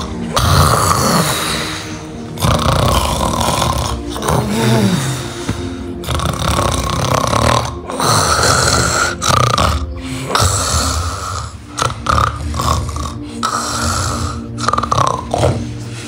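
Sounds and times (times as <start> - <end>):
man snoring loudly: 0.0 - 16.0.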